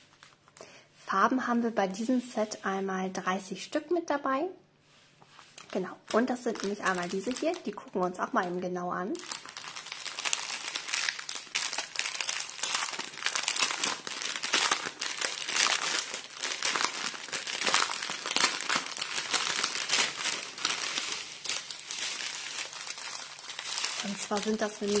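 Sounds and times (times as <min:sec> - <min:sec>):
plastic bags crinkling: 0:00.0 - 0:00.6, 0:05.5 - 0:25.0.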